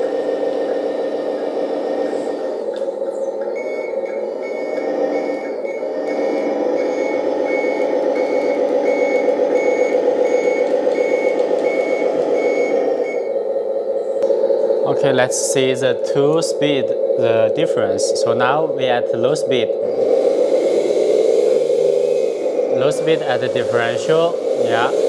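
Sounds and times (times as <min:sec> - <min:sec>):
recorded diesel truck engine: 0:00.0 - 0:25.0
reversing beeper: 0:00.0 - 0:25.0.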